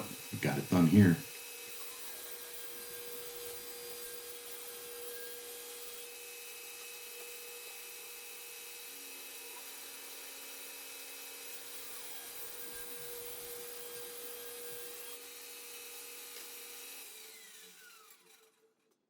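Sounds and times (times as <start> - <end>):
power saw cutting plywood: 0.0 - 18.7
saw blade winding down: 0.0 - 18.7.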